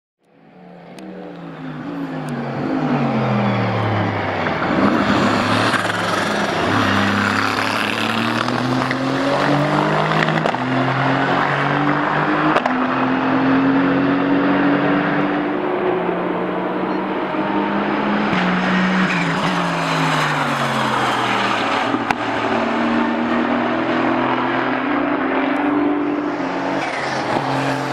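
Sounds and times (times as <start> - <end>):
race car engine revving: 0.5 - 27.9.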